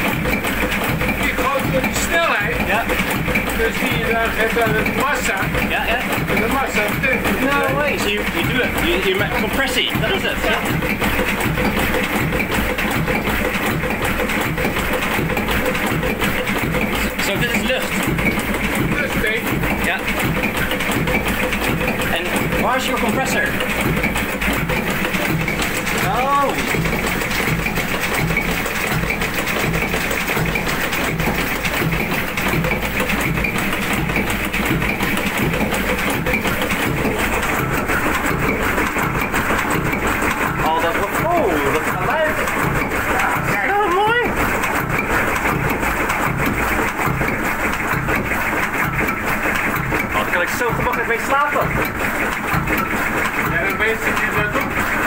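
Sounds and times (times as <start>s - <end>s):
diesel engine running: 0.0s - 55.0s
valve gear mechanical beat: 0.0s - 55.0s.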